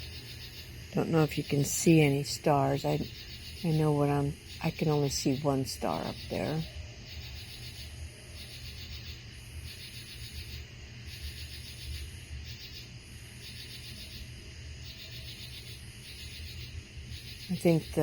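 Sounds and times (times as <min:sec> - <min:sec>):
insects buzzing in bursts: 0:00.0 - 0:18.0
low steady hum: 0:00.0 - 0:18.0.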